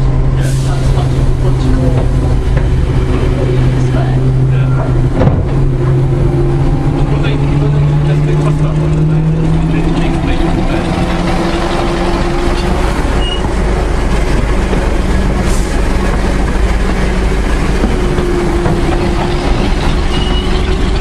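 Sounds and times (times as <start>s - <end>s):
diesel engine hum: 0.0s - 21.0s
wheels on rails: 1.1s - 21.0s.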